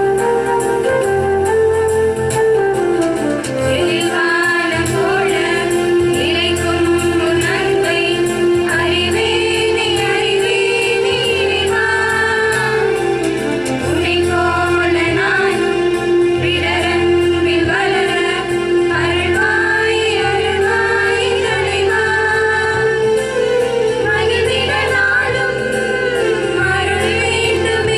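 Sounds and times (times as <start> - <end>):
women singing together: 3.6 - 27.9.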